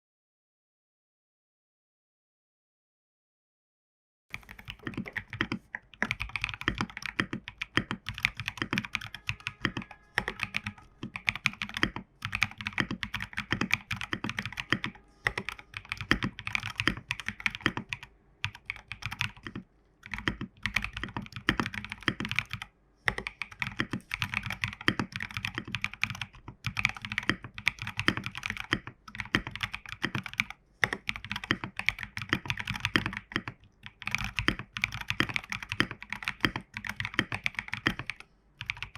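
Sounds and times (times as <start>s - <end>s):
typing on mechanical keyboard: 4.3s - 38.9s.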